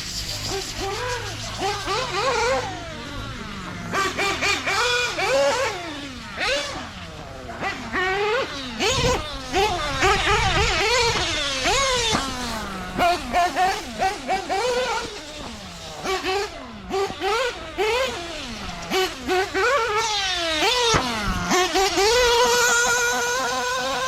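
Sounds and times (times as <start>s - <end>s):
rc car nitro engine revving: 0.0s - 24.0s.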